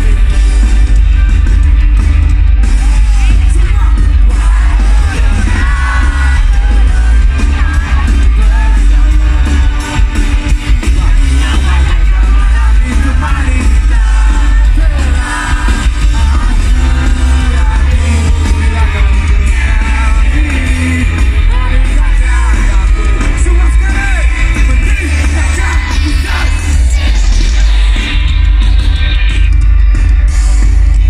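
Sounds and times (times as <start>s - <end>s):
heavy bass: 0.0s - 31.0s
rock band playing: 0.0s - 31.0s
person singing: 2.5s - 28.4s.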